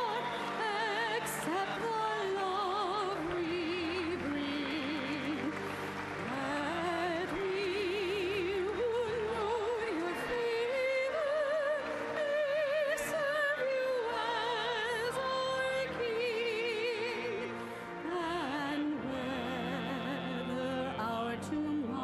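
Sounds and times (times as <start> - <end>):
classical solo voice singing: 0.0 - 22.0
sustained accompaniment: 0.0 - 22.0.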